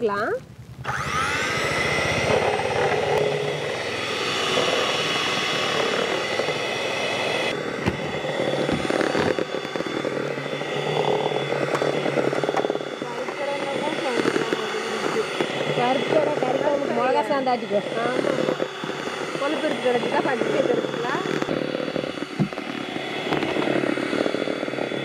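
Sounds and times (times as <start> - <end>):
electric kitchen mixer whine: 0.8 - 25.0.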